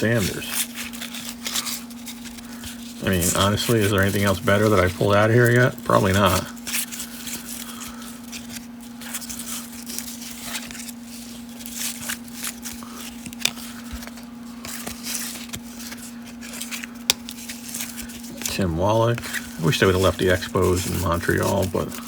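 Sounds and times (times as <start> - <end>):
cards being flipped: 0.0 - 22.0
steady low hum: 0.0 - 22.0.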